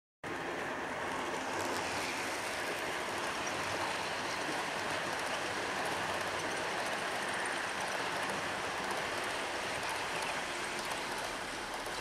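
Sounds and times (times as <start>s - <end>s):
model train wheels rolling on rails: 0.3s - 12.0s.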